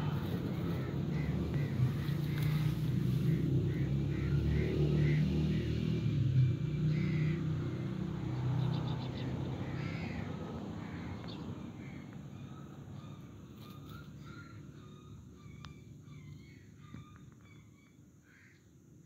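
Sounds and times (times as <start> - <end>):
vehicle engine rumbling: 0.0 - 17.4.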